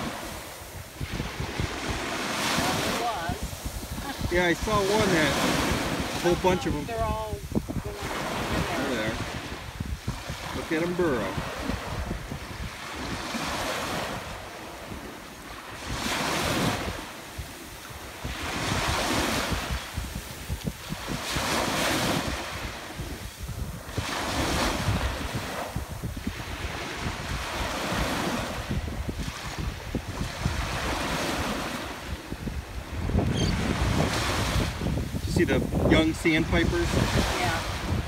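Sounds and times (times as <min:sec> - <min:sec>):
waves washing over sand: 0:00.0 - 0:38.0
wind buffeting microphone: 0:00.0 - 0:38.0.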